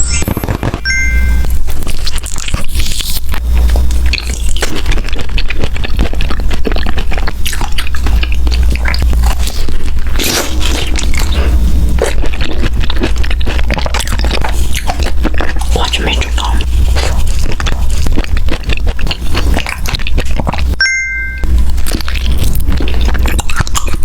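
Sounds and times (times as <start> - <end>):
crunching and chewing food: 0.0 - 20.8, 21.4 - 24.0
steady low hum: 0.0 - 24.0.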